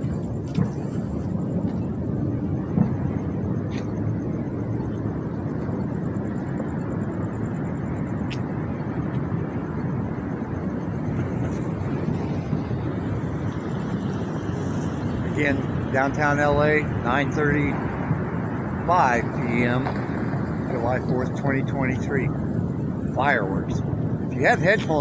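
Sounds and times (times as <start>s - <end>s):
distant fireworks roar: 0.0s - 25.0s.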